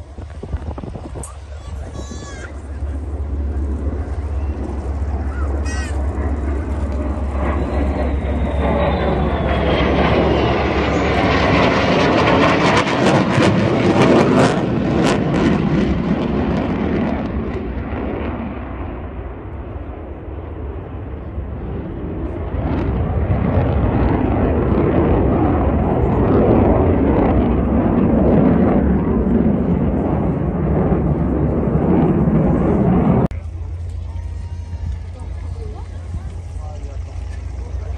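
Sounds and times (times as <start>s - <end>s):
fighter jets passing overhead: 0.0s - 37.9s.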